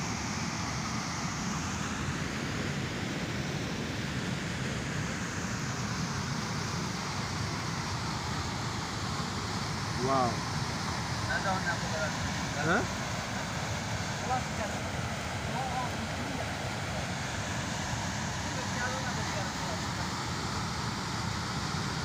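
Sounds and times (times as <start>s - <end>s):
water rushing from spillway: 0.0s - 22.0s.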